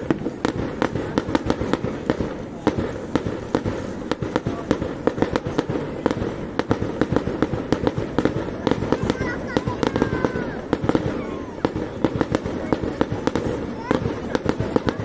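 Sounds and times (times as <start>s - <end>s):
fireworks bangs and crackles: 0.0s - 15.0s
low rumble of explosions: 0.0s - 15.0s.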